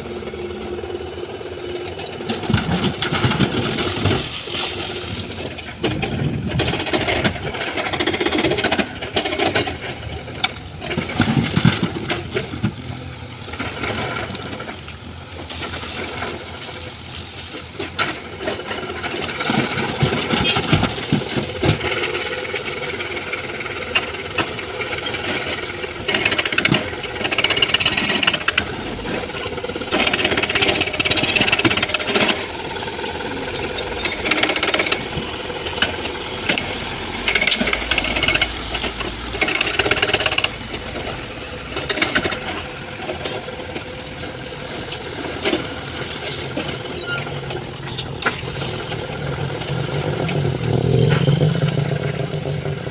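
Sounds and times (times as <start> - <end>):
excavator diesel engine under load: 0.0 - 52.9.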